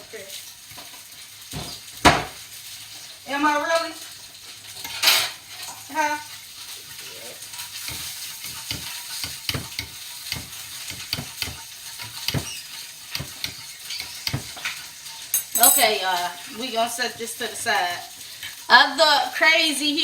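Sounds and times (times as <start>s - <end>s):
eggs sizzling in a frying pan: 0.0s - 20.0s
spatula scraping a pan: 2.6s - 18.7s.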